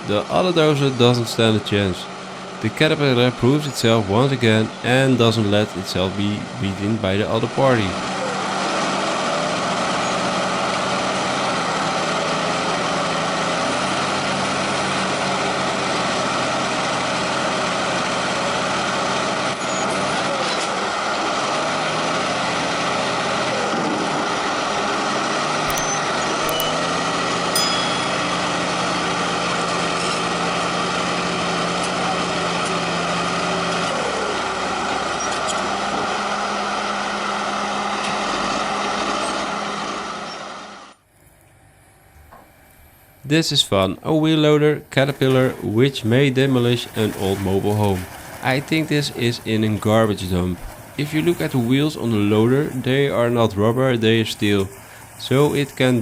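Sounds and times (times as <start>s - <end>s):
bulldozer diesel engines under load: 0.0s - 56.0s.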